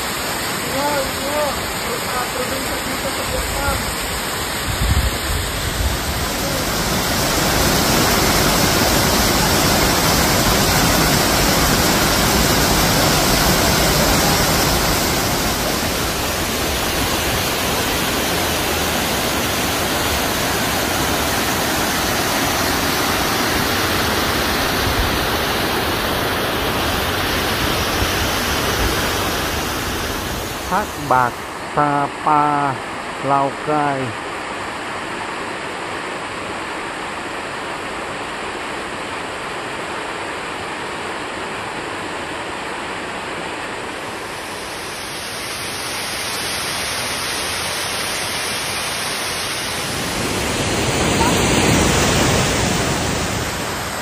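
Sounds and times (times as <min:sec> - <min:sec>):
waterfall rushing over boulders: 0:00.0 - 0:54.0.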